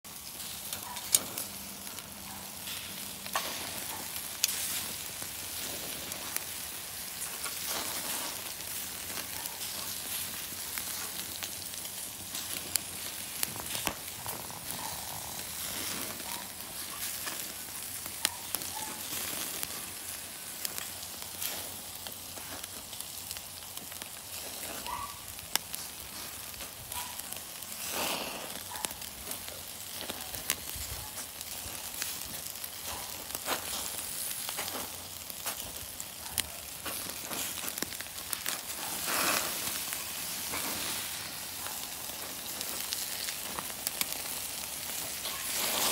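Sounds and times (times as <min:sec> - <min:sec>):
meat sizzling on a grill: 0:00.1 - 0:45.9
sharp pops and crackles: 0:00.1 - 0:45.9.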